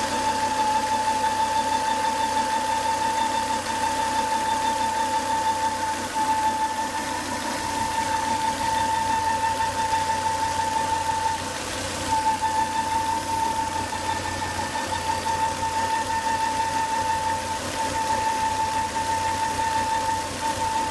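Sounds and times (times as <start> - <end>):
car engine running: 0.0 - 20.9
high-pitched whine: 0.0 - 20.9.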